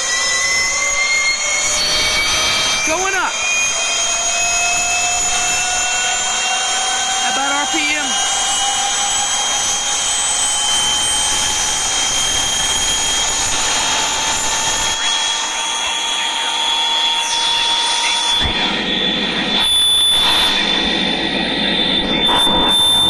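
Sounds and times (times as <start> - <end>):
helicopter turbine whine: 0.0 - 23.0.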